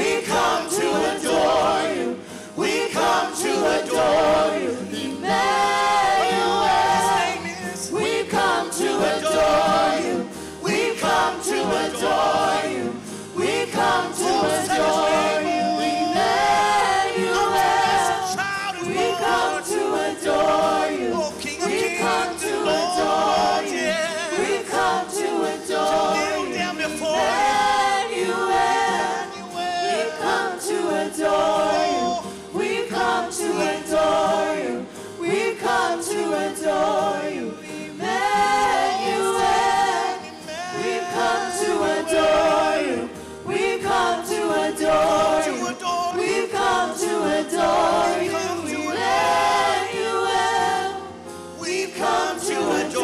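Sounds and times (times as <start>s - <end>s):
group singing into microphones: 0.0s - 53.0s.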